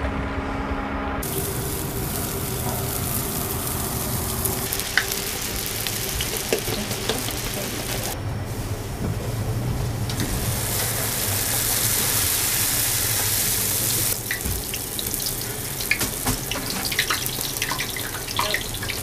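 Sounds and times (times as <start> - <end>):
dough sizzling in hot oil: 1.2 - 8.2, 10.0 - 19.0
oil crackling and popping: 1.2 - 8.2, 10.1 - 19.0.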